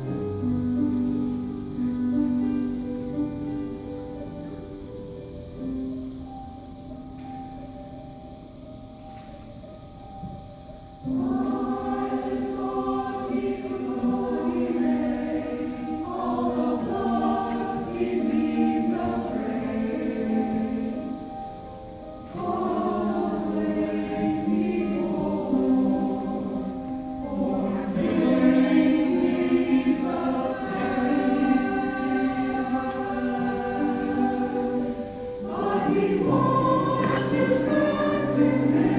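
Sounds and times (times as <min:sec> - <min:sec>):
church choir singing: 0:00.0 - 0:04.8, 0:10.3 - 0:38.9.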